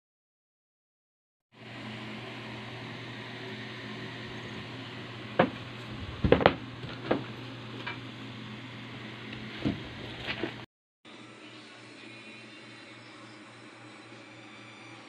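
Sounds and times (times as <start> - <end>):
steady background hum: 1.6 - 15.0.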